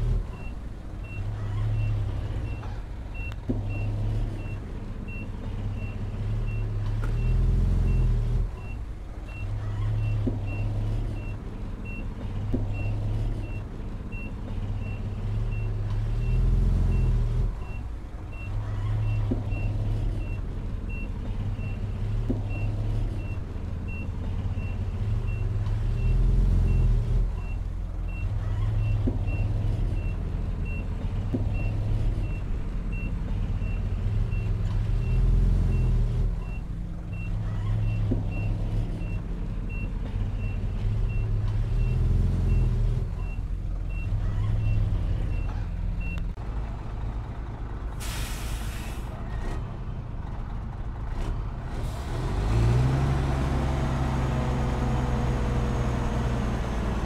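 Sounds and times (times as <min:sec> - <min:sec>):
diesel earthmover engine under load: 0:00.0 - 0:57.0.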